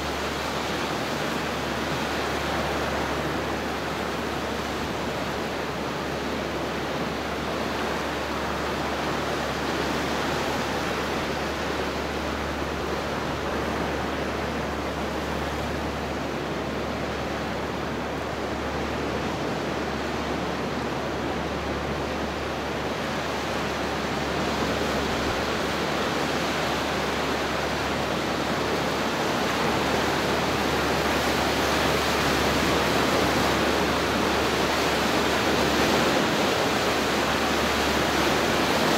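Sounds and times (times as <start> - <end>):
surf washing over rocks: 0.0 - 38.9.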